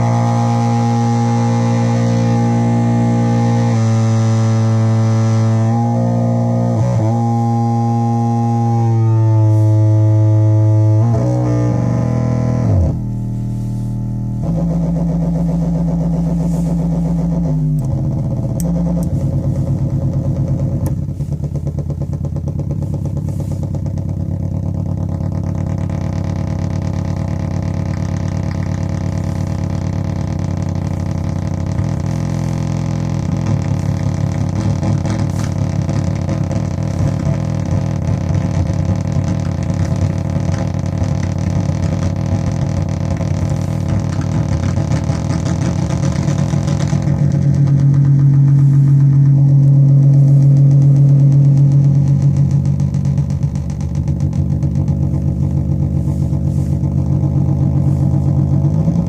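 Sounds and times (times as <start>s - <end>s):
synth drone: 0.0s - 59.0s.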